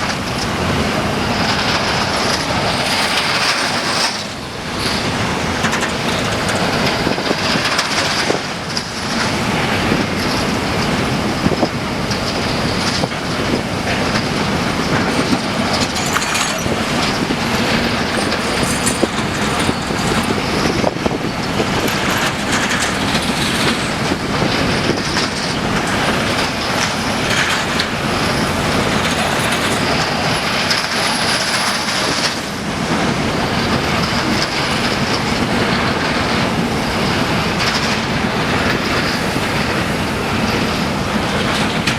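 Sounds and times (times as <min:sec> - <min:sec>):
high wheel squeal: 0:00.0 - 0:09.4, 0:10.0 - 0:41.9
clicking at rail joints: 0:00.0 - 0:41.9
freight train wheels rumbling: 0:00.0 - 0:41.9.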